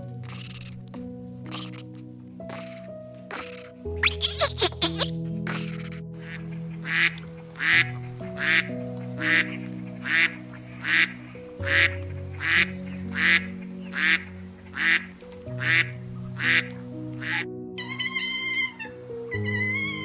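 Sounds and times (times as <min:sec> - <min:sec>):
background music with held chords: 0:00.0 - 0:20.0
animal calling: 0:00.2 - 0:20.0.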